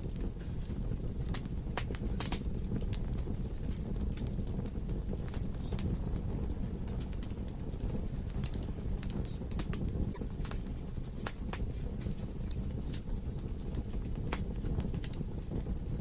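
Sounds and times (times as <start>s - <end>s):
wood logs burning in fireplace: 0.0s - 16.0s.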